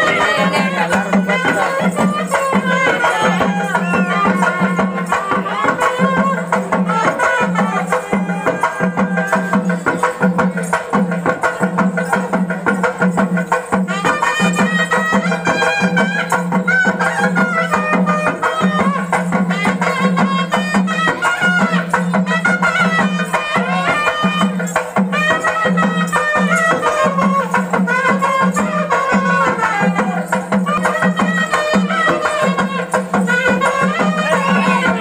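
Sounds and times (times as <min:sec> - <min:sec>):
reedy wind instrument melody: 0:00.0 - 0:10.8, 0:13.7 - 0:35.0
frame drum beats: 0:00.0 - 0:35.0.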